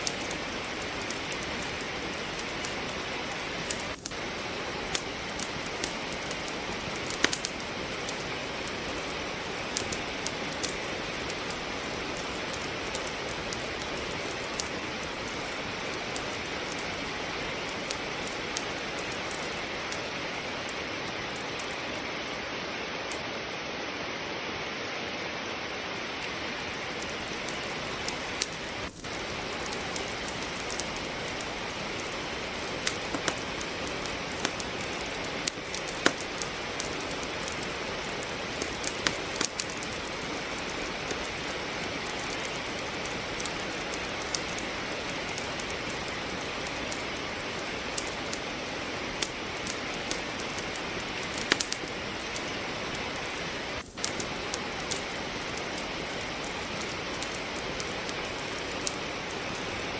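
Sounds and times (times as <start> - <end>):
firewood crackling and popping: 0.0 - 59.9
rain falling: 0.0 - 59.9.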